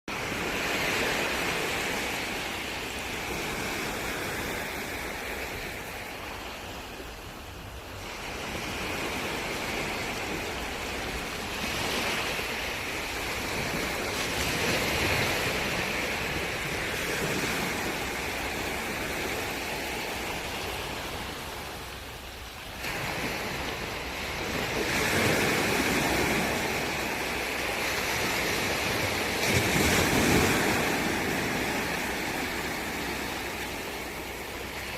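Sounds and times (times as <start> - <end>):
ocean waves washing ashore: 0.1 - 34.9.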